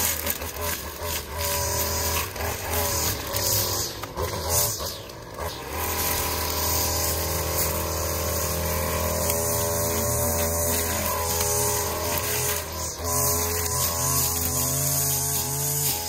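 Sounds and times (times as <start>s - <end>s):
string trimmer engine running: 0.0s - 16.0s.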